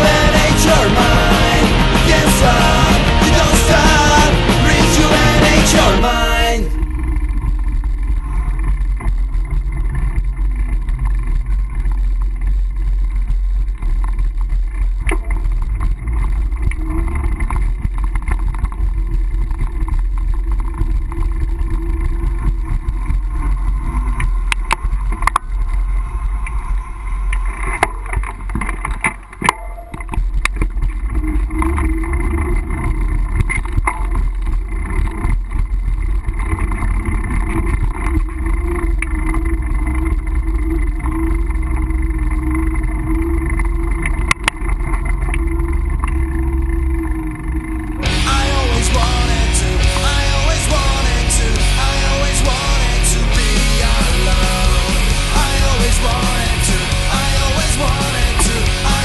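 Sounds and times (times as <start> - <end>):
bike riding noise: 0.0 - 59.0.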